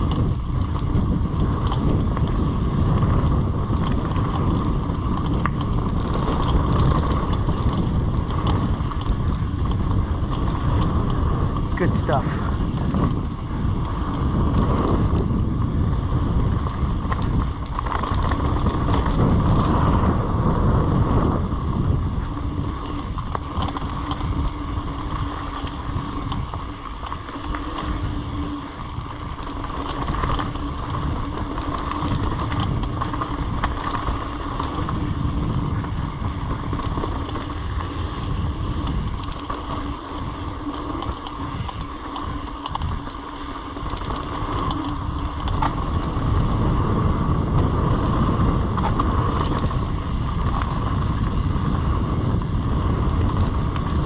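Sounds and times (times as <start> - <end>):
bike rattling: 0.0 - 54.0
wind buffeting microphone: 0.0 - 54.0.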